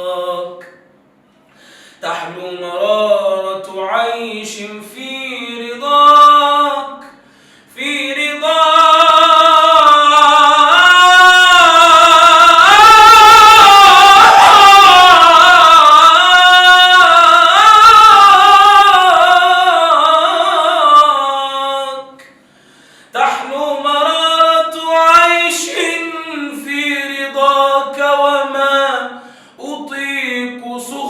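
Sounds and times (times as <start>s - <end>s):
man singing wordless melody: 0.0s - 0.8s, 2.0s - 22.3s, 23.1s - 31.0s.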